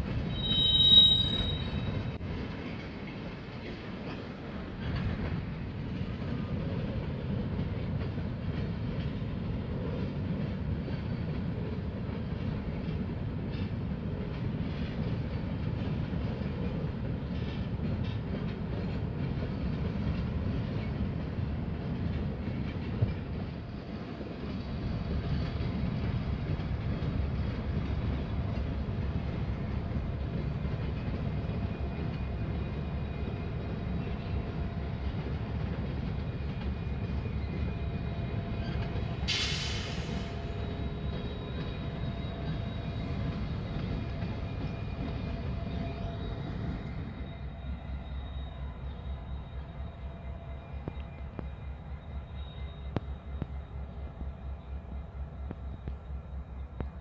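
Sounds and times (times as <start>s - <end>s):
freight cars rumbling on rails: 0.0s - 57.0s.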